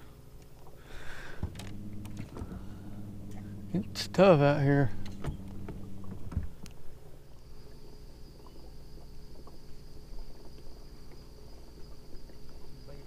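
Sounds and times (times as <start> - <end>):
insects droning: 0.0 - 13.0
steady low hum: 0.0 - 13.0.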